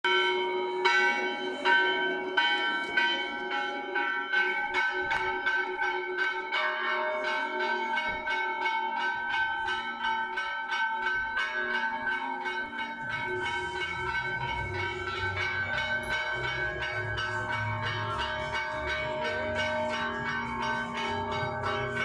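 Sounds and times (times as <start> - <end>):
bells ringing: 0.0 - 22.0.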